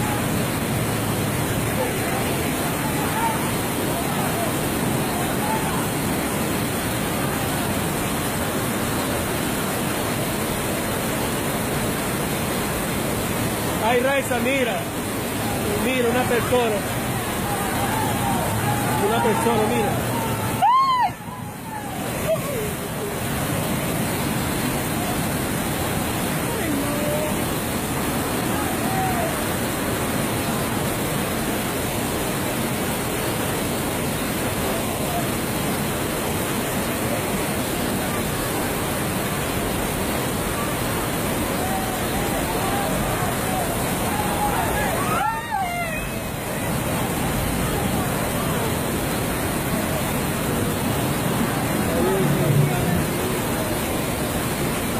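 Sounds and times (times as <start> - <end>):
floodwater rushing: 0.0 - 54.9
heavy rain: 0.0 - 54.9.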